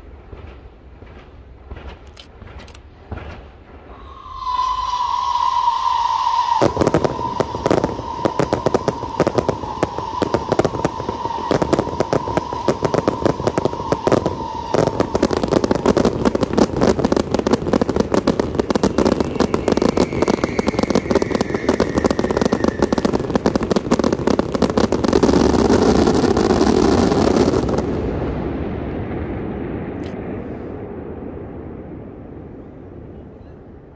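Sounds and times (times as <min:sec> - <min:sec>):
fireworks crackling and popping: 0:00.0 - 0:33.9.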